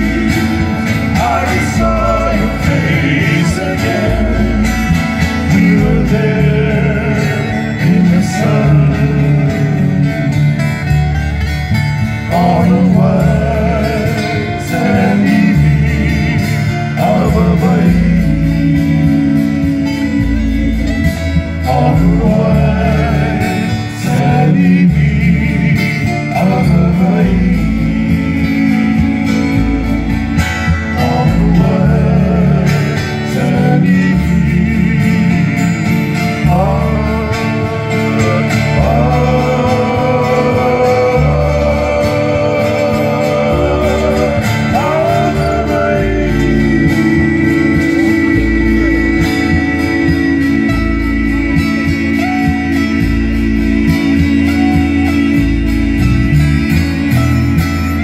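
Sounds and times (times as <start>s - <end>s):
man singing with vibrato: 0.0s - 58.0s
plucked bass guitar: 0.0s - 58.0s
strummed acoustic guitars: 0.0s - 58.0s.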